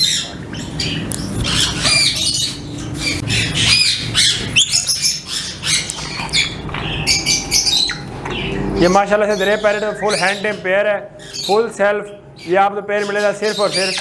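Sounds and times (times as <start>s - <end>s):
parrots squawking and chirping: 0.0s - 14.0s.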